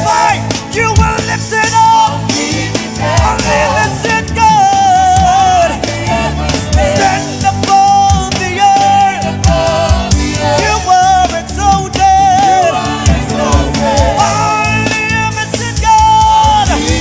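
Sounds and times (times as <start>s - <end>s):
gospel worship music: 0.0s - 17.0s.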